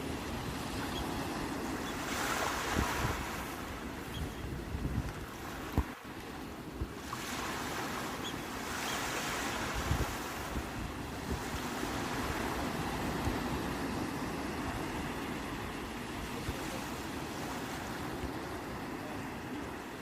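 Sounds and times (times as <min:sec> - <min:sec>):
sea waves breaking: 0:00.0 - 0:20.0.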